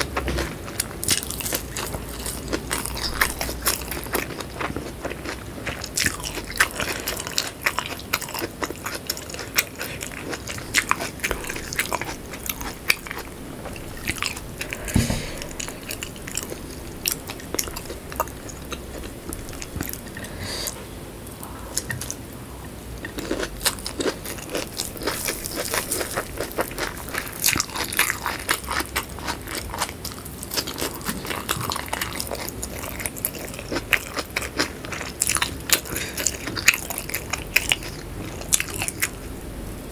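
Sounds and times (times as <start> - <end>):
person chewing and crunching: 0.0 - 22.2, 23.0 - 39.3.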